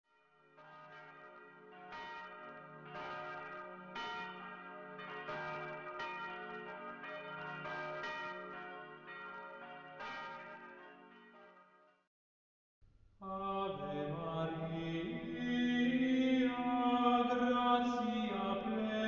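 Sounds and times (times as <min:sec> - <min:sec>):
church bells ringing: 0:00.3 - 0:12.0, 0:13.7 - 0:19.0.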